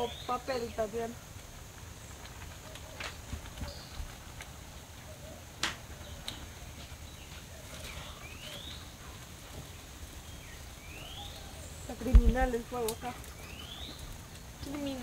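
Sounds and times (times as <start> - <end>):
bird chirping: 0.0 - 1.1, 2.0 - 15.0.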